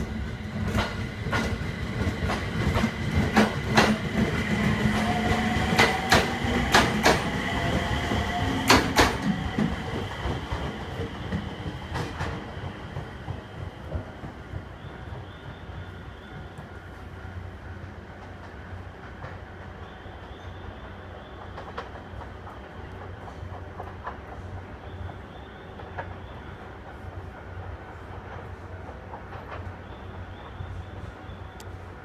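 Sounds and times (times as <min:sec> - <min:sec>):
train wheels clicking over joints: 0:00.0 - 0:17.2, 0:20.7 - 0:30.7
train rumble: 0:00.0 - 0:32.0.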